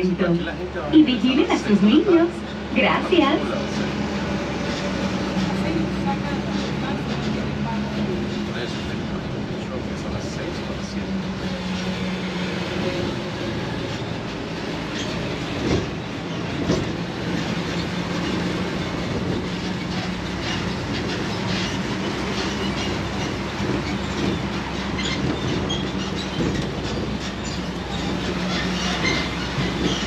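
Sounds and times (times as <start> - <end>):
road noise: 0.0 - 30.0
tow vehicle hum: 0.0 - 30.0
tram cars rattling: 0.0 - 30.0.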